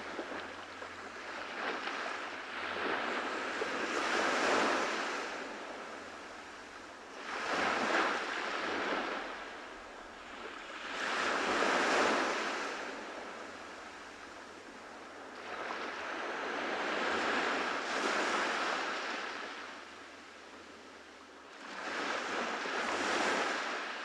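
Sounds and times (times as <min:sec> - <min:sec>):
ocean waves breaking: 0:00.0 - 0:19.7.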